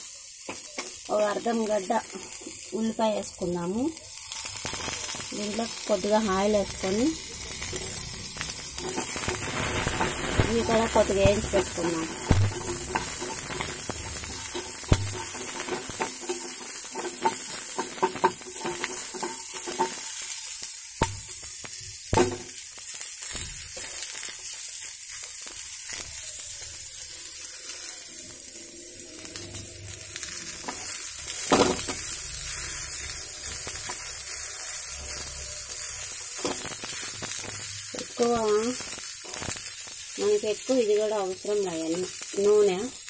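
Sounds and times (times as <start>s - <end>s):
onions sizzling in oil: 0.0s - 43.0s.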